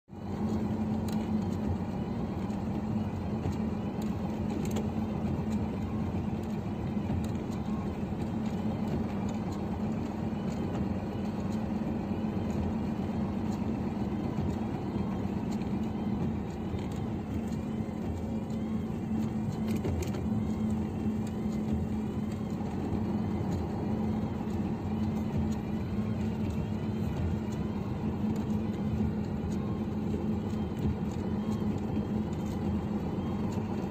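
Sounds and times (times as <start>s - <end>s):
tyre and road noise: 0.1s - 33.9s
truck diesel engine running: 0.2s - 33.9s.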